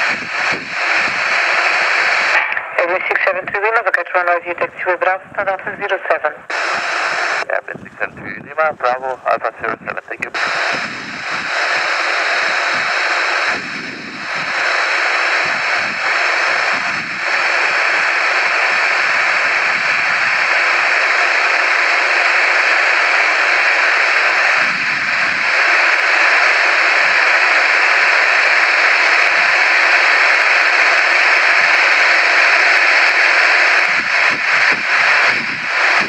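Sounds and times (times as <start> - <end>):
jet engines running with whine: 0.0 - 36.0.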